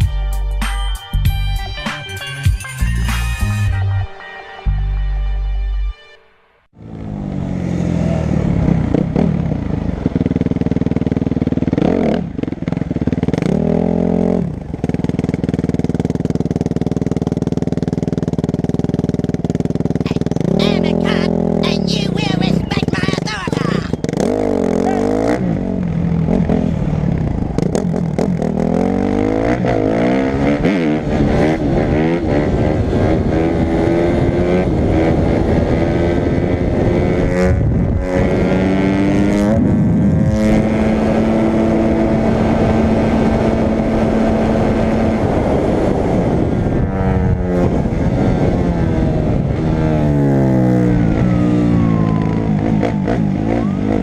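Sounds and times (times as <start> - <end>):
motorcycle engine revving: 6.7 - 54.0.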